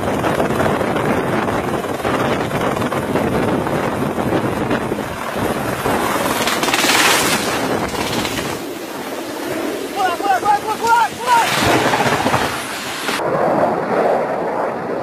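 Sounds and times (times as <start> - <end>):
helicopter lifting off: 0.0 - 14.7
loud wind noise on microphone: 0.0 - 15.0.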